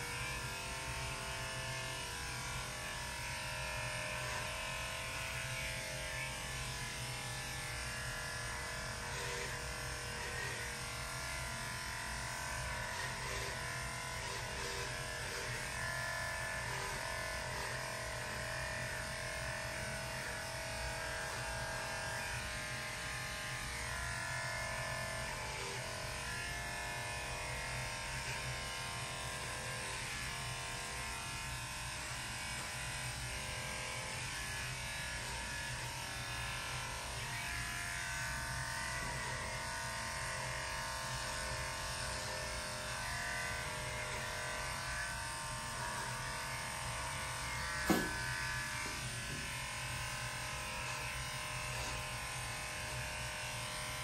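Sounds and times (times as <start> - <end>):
electric clippers humming: 0.0 - 54.0.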